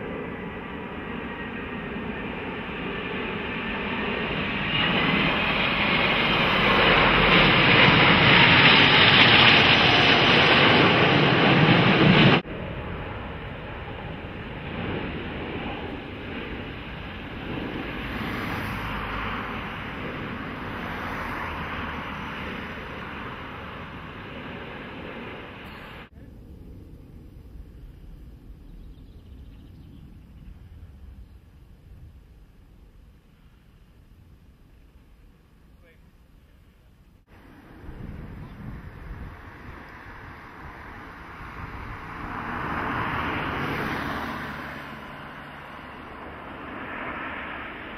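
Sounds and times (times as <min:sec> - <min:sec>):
jet airliner passing low: 0:00.0 - 0:47.9.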